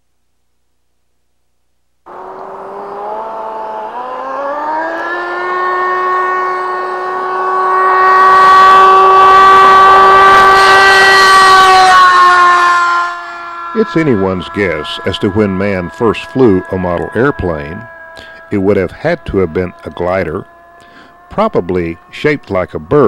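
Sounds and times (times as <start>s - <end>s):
model jet turbine whining: 2.1s - 23.0s.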